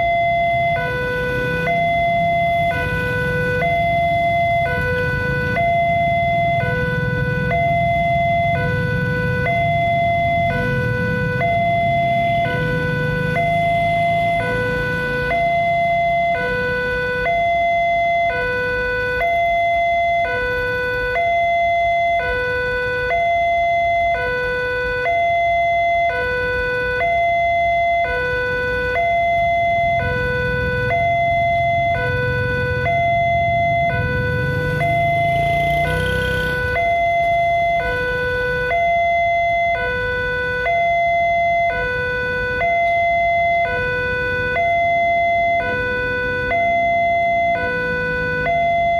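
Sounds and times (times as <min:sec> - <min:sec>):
two-tone level crossing siren: 0:00.0 - 0:48.9.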